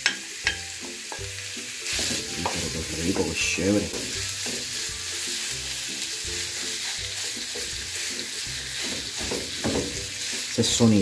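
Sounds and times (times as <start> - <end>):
faint background music: 0.0 - 11.0
meat sizzling in frying pan: 0.0 - 11.0
wooden spoon stirring in pan: 1.9 - 11.0.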